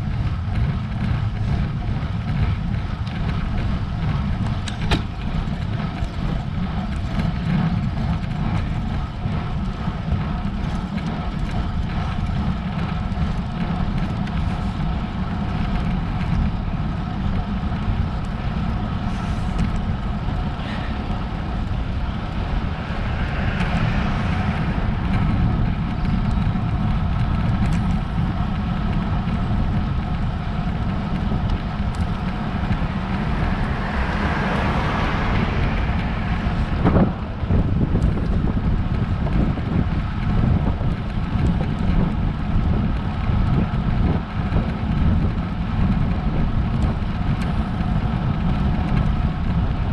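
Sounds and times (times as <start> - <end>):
wind rumbling on microphone: 0.0 - 49.9.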